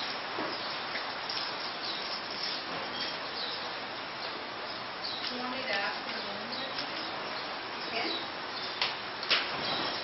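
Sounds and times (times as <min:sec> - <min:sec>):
steady noisy hiss: 0:00.0 - 0:10.0.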